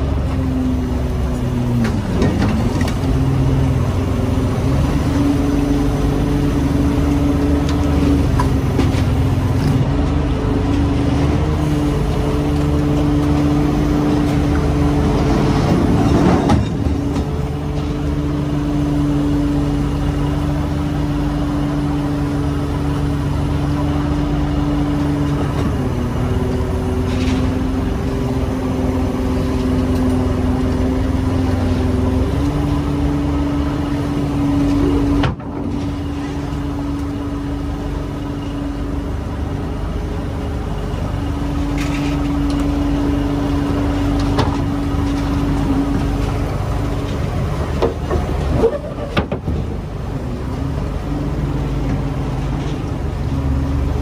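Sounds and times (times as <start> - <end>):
boat machinery droning hum: 0.0 - 54.0.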